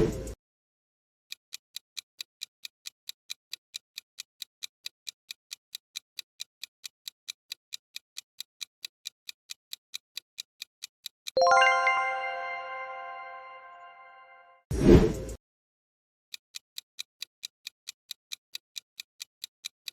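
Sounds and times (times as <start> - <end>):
clock ticking: 1.5 - 14.0, 16.3 - 19.9.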